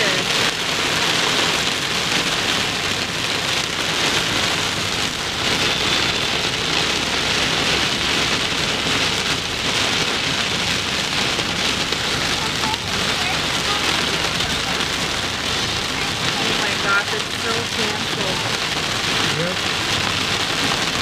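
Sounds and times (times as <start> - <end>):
heavy rain on car roof: 0.0 - 21.0.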